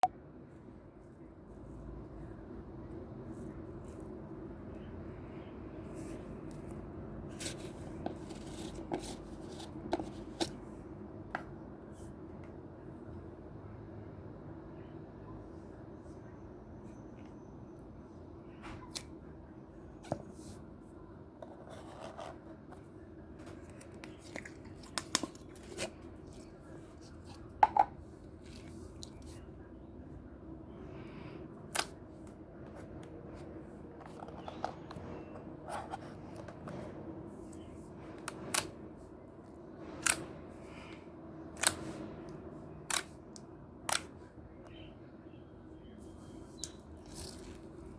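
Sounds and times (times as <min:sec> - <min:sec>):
low background hum: 0:00.0 - 0:47.9.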